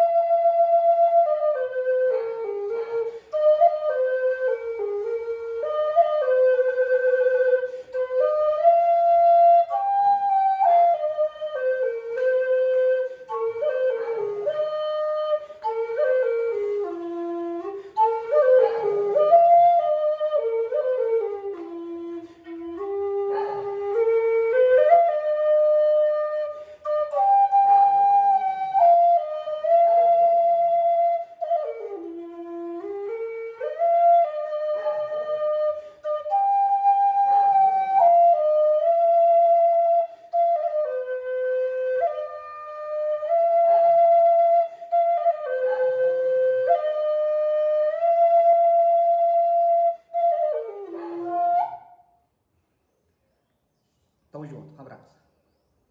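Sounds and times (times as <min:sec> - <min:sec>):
flute-like wind instrument melody: 0:00.0 - 0:52.3.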